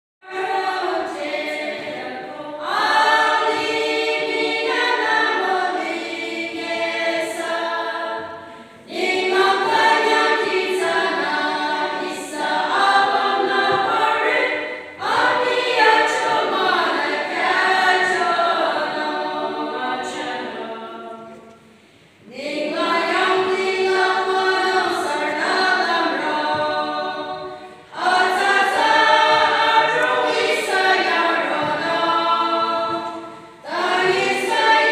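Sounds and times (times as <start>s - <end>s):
women's choir singing unaccompanied: 0.2s - 34.9s.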